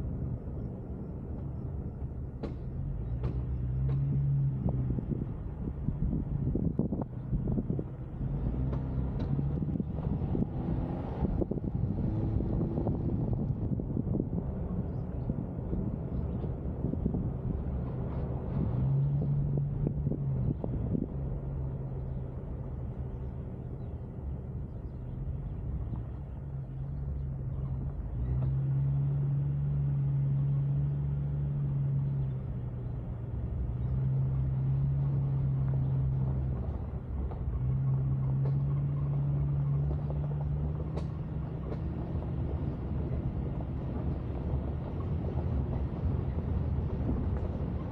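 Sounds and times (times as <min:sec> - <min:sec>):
car engine drone: 0:00.0 - 0:47.9
road rumble: 0:00.0 - 0:47.9.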